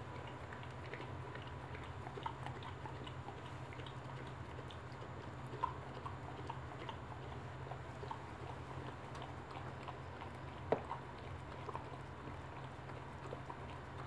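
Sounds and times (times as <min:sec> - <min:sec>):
dog licking and chewing: 0:00.0 - 0:14.0.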